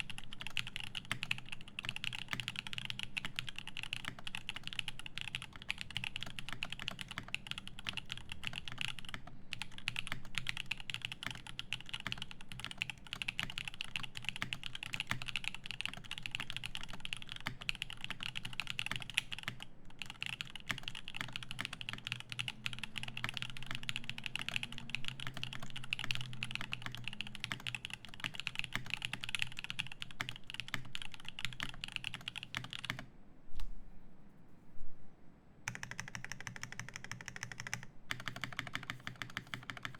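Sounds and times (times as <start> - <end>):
fast mechanical keyboard typing: 0.0 - 33.0, 35.7 - 39.9.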